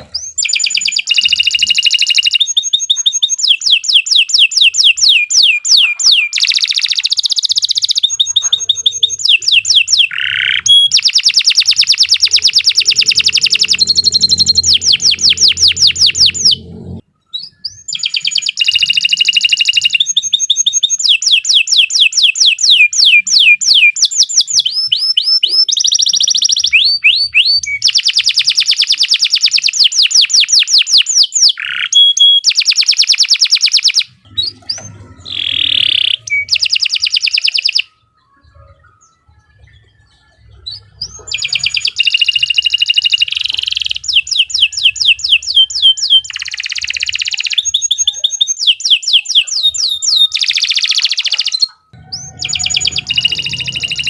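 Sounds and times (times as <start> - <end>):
canary singing rapid trills: 0.0 - 54.0.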